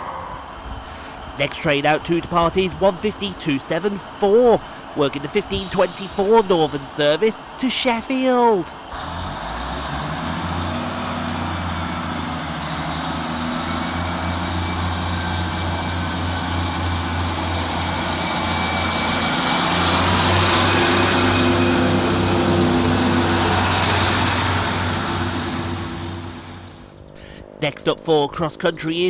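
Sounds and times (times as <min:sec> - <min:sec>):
diesel train engine droning: 0:00.0 - 0:29.0.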